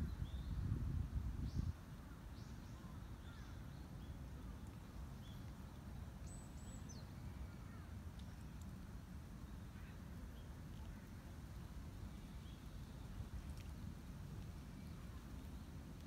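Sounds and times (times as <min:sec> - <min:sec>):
steady low outdoor rumble: 0:00.0 - 0:16.0.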